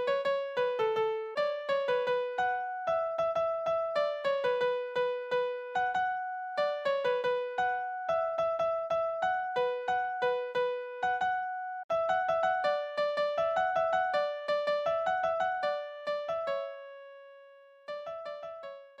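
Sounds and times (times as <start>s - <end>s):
electric piano melody: 0.0s - 19.0s.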